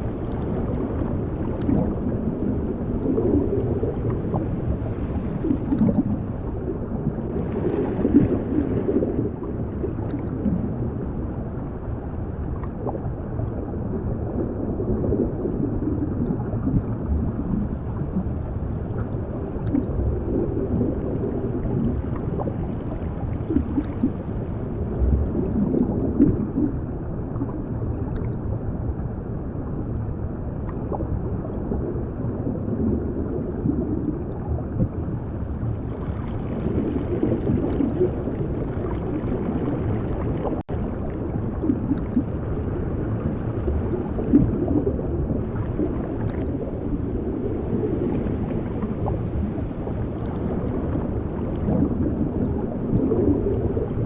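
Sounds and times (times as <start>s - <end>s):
underwater bubbling and gurgling: 0.0s - 54.0s.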